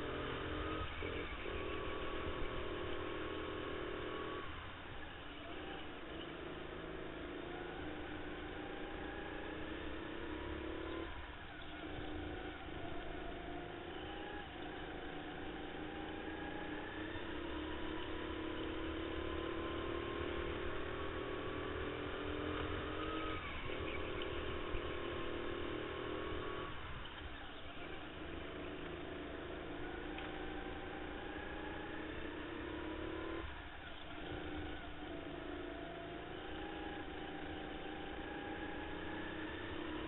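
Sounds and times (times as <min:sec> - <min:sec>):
go-kart motor revving: 0:00.0 - 0:40.0.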